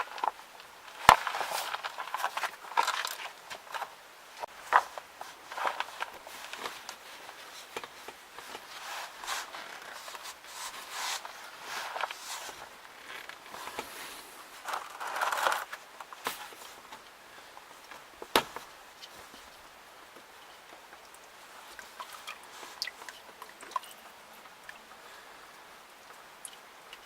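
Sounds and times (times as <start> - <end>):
objects rustling and scraping: 0.0 - 25.2.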